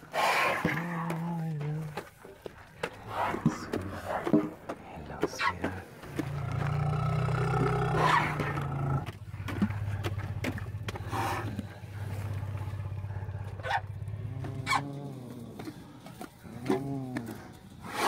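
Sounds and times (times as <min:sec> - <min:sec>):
elephant rumbling: 0:00.0 - 0:18.0.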